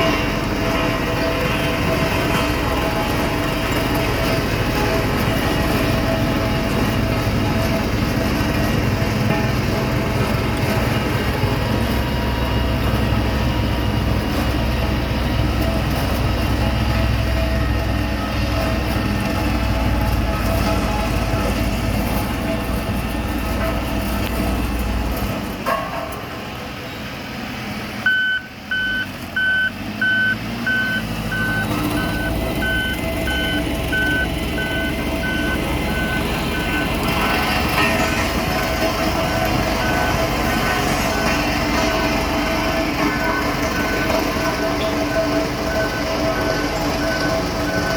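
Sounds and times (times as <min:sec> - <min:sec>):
reversing alarm beeping: 0:00.0 - 0:23.6, 0:28.0 - 0:47.9
diesel engine running: 0:00.0 - 0:47.9
vibratory road roller rumbling: 0:00.0 - 0:47.9.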